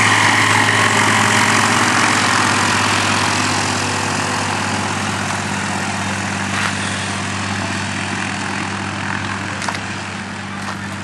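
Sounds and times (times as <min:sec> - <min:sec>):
propeller engine running: 0:00.0 - 0:11.0.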